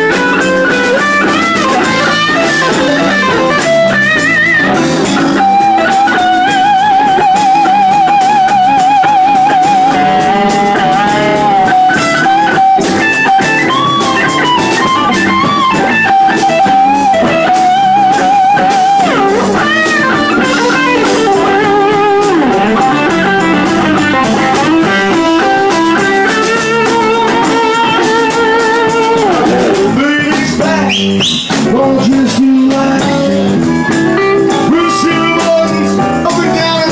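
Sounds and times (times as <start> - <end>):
bass guitar: 0.0 - 36.9
drums: 0.0 - 36.9
electric guitar lead: 0.0 - 36.9.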